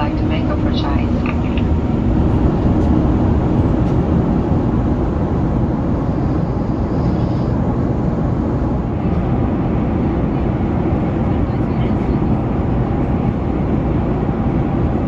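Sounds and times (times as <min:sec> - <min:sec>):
airplane cabin noise in flight: 0:00.0 - 0:15.0.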